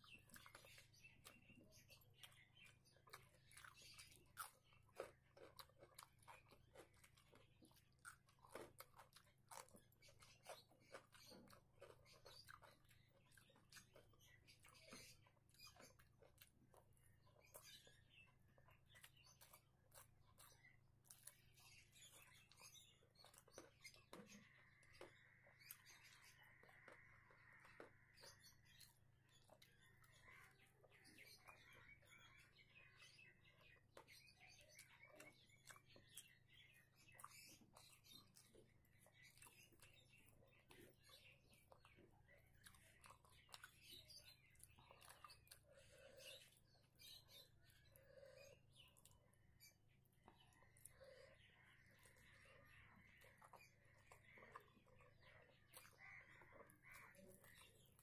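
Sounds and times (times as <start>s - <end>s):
eating with fingers and chewing: 0.0s - 58.0s.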